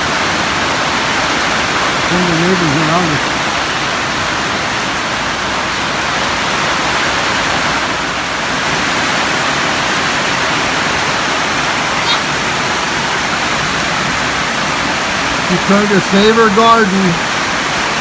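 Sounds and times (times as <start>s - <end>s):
heavy rain downpour: 0.0s - 18.0s.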